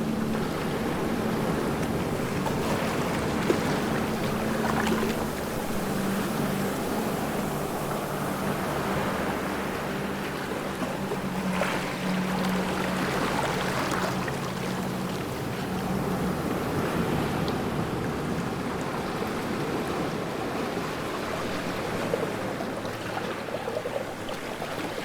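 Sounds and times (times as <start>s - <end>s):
ocean waves washing: 0.0s - 25.0s.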